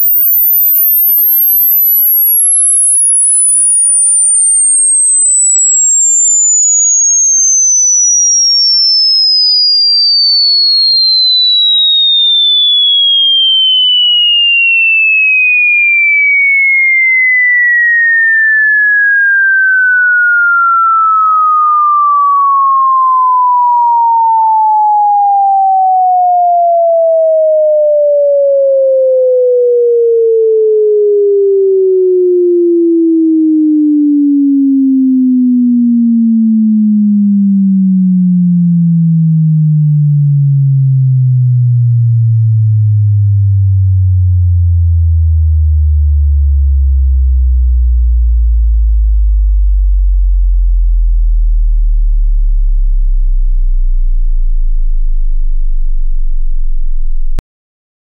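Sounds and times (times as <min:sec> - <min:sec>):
sine tone sweeping down: 0:00.0 - 0:57.4.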